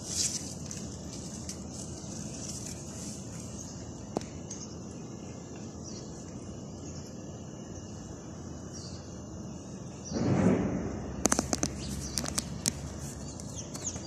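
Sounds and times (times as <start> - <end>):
high insect trill: 0.0 - 14.0
faint chirps: 1.7 - 14.0.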